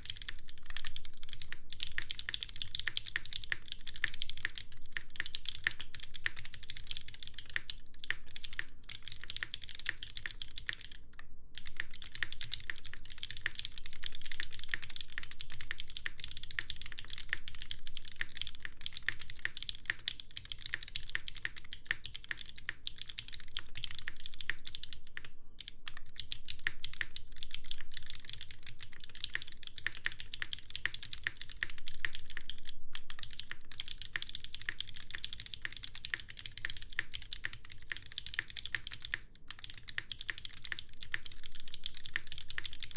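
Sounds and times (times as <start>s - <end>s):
fast mechanical keyboard typing: 0.0s - 11.0s, 11.6s - 42.9s.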